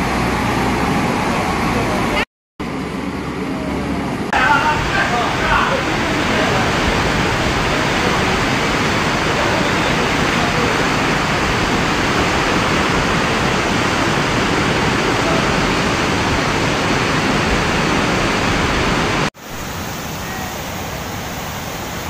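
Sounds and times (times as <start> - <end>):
flood river rushing: 0.0 - 22.0.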